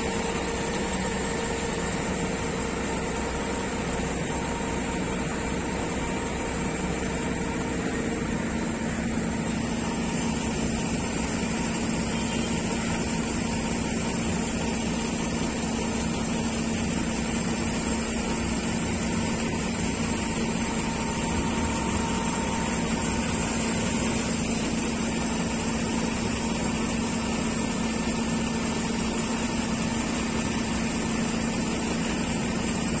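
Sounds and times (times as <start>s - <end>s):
diesel machinery droning: 0.0s - 33.0s.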